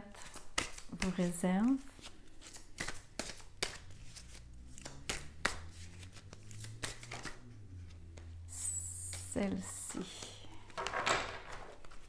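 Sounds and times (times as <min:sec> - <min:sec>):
cards being shuffled: 0:00.1 - 0:12.0
low steady hum: 0:01.1 - 0:12.0.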